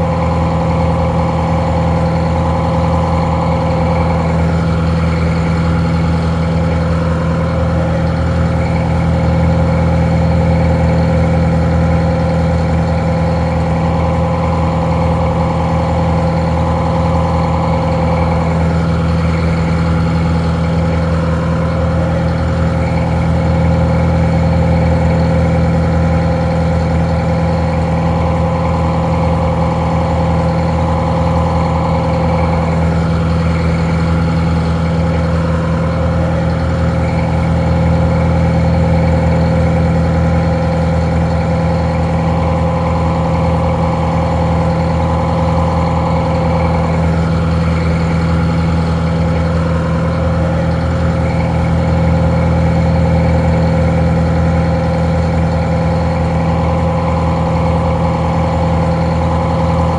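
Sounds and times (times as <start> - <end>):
muffled diesel engine idling: 0.0 - 59.9.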